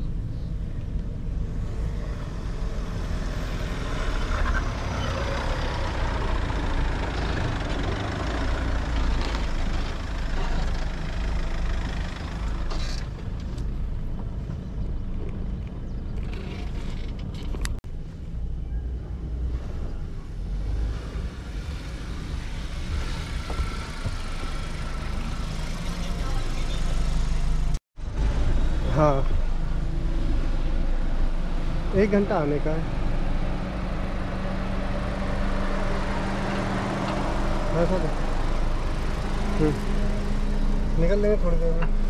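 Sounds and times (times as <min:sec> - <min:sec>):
road and wind noise: 0:00.0 - 0:42.0
vehicle engine rumble: 0:00.0 - 0:42.0.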